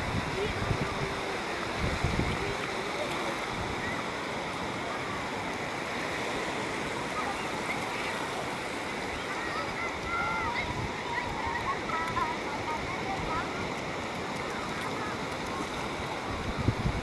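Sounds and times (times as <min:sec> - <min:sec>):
small waves breaking on shore: 0:00.0 - 0:17.0
faint distant voices: 0:00.1 - 0:17.0.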